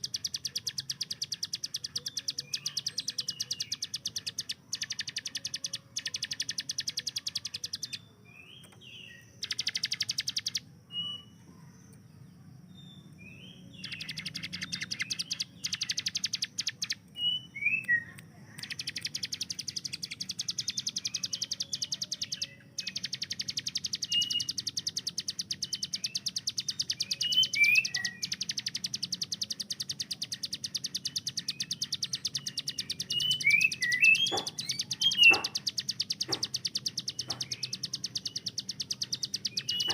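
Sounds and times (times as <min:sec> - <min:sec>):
bird trilling: 0:00.0 - 0:08.0, 0:09.4 - 0:11.4, 0:13.3 - 0:39.9
high down-slurred bird chirps: 0:00.0 - 0:39.9.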